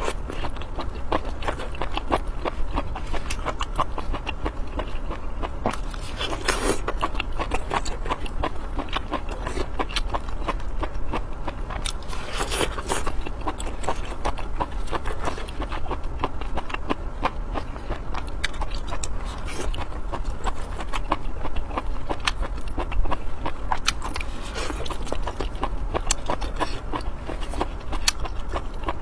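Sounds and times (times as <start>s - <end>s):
person chewing and biting: 0.0s - 29.0s
steady low hum: 0.0s - 29.0s.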